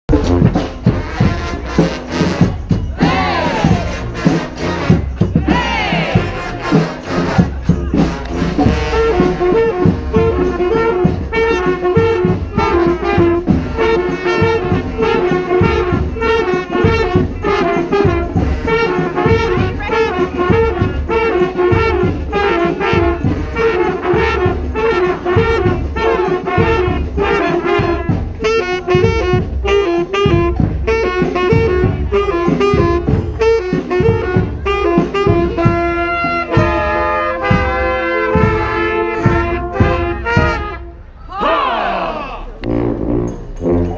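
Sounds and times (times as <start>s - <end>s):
marching drums: 0.1s - 40.8s
brass band playing: 0.1s - 43.9s.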